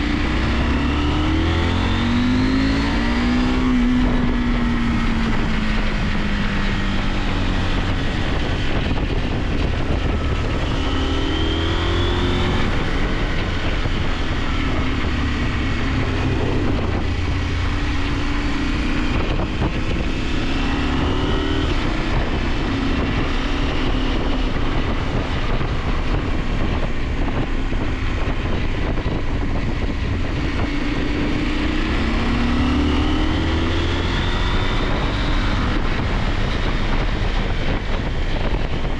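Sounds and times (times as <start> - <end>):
motorcycle engine revving: 0.0 - 38.9
wind rush over microphone: 0.0 - 38.9.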